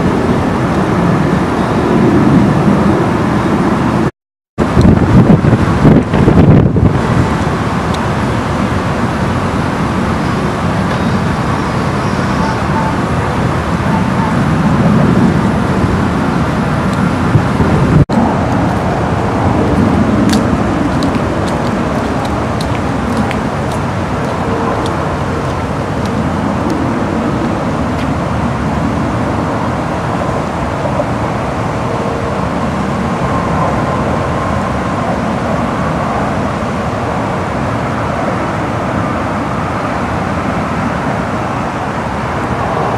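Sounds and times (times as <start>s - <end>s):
flooded creek rushing: 0.0s - 42.9s
wind on microphone: 0.0s - 42.9s.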